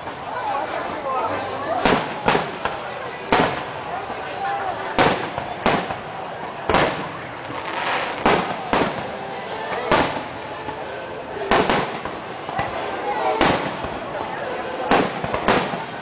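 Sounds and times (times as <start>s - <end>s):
firework shells booming: 1.8s - 4.3s, 4.9s - 16.0s.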